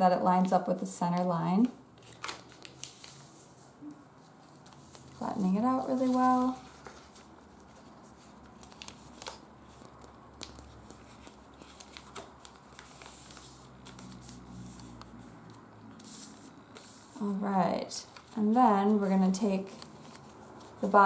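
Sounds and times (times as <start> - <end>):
paper rustling and ticking: 1.6 - 3.4, 4.3 - 17.0, 17.9 - 20.9.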